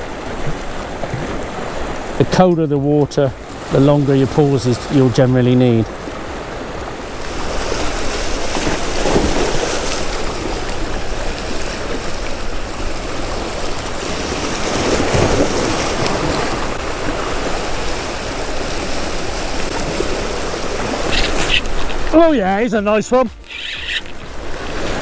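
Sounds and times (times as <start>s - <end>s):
surf washing over rocks: 0.0s - 25.0s.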